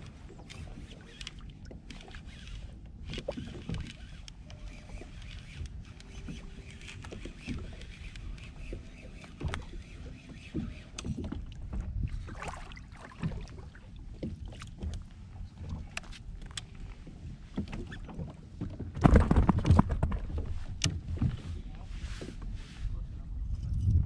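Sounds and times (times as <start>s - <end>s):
water lapping against plastic kayak: 0.0s - 23.4s.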